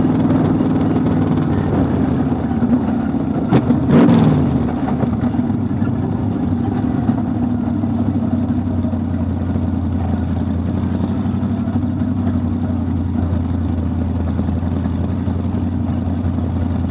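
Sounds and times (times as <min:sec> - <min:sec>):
race car engine idling: 0:00.0 - 0:16.9.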